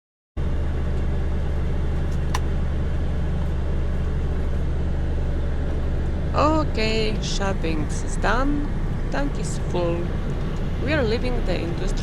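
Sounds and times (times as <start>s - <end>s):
diesel truck engine running: 0.4s - 12.0s.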